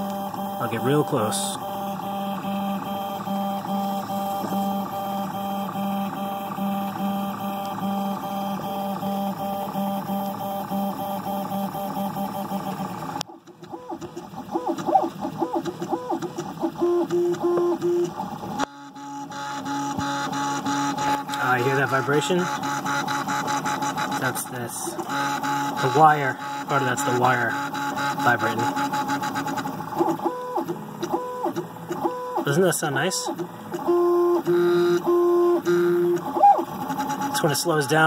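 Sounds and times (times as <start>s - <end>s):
fans whirring: 0.0s - 38.0s
stepper motors humming: 0.0s - 38.0s.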